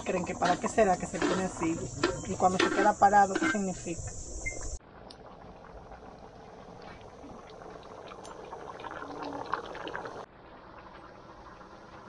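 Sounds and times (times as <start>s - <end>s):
broth bubbling in a pot: 0.0s - 12.0s.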